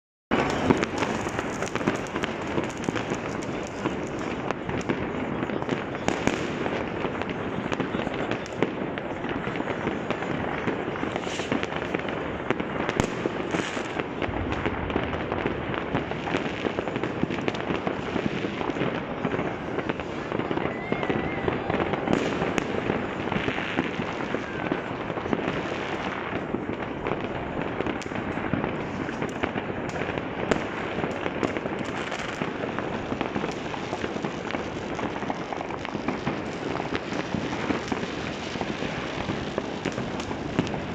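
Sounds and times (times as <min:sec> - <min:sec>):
fireworks bangs and crackles: 0:00.3 - 0:40.9.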